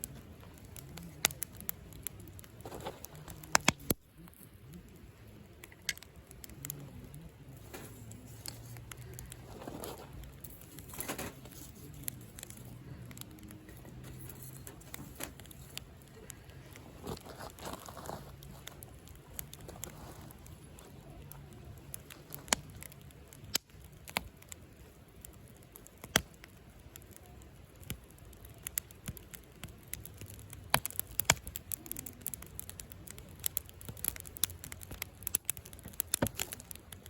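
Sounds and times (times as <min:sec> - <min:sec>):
fire flaring up with a rush: 0:00.0 - 0:37.0
fire popping: 0:00.0 - 0:37.0
wood fire crackling: 0:00.0 - 0:37.0.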